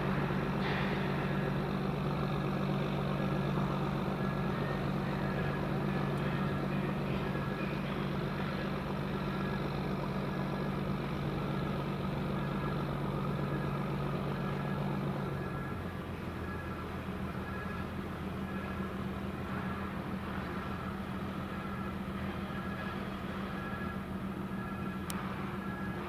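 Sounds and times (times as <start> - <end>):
ship diesel engine humming: 0.0 - 26.0.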